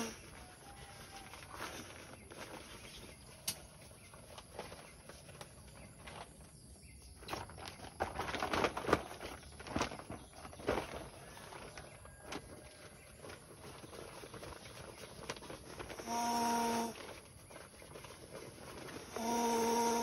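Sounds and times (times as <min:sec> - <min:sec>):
nylon fabric rustling and crinkling: 0:00.0 - 0:20.0.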